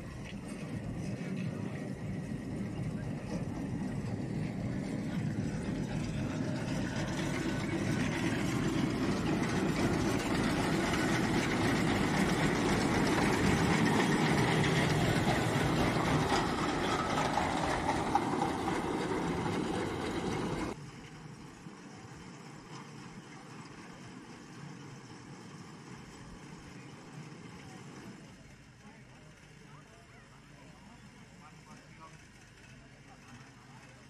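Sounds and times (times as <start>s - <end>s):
round baler working: 0.0s - 34.0s.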